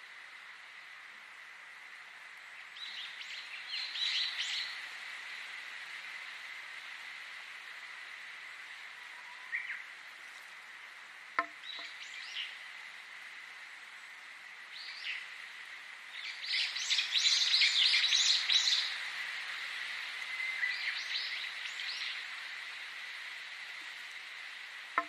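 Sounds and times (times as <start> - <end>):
soft hiss: 0.0 - 25.0.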